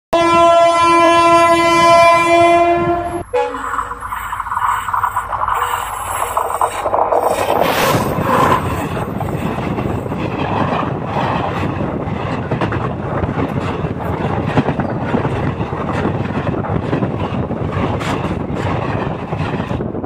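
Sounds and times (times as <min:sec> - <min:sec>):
train wheels rumbling on rails: 0:02.8 - 0:20.0.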